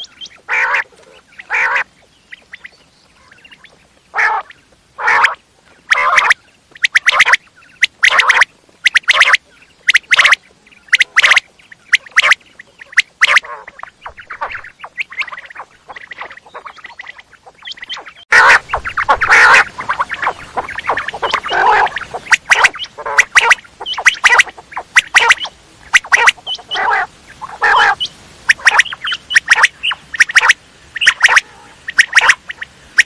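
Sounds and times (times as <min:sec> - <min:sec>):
quail calling: 0:00.0 - 0:33.0.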